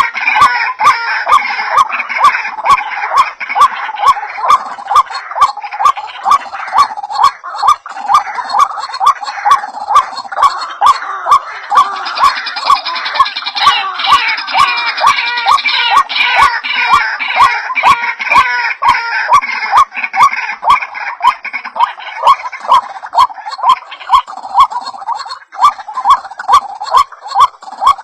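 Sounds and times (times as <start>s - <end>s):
chorus of bird calls: 0.0s - 28.0s
repeated bird call with clicks: 0.0s - 28.0s.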